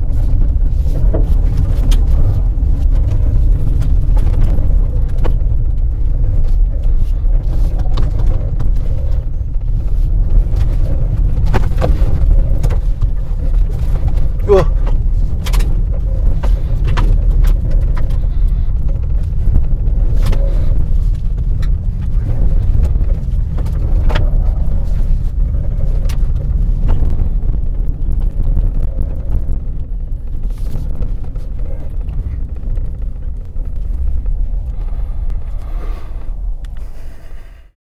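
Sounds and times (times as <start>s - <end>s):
tyre and wind rumble: 0.0s - 37.8s.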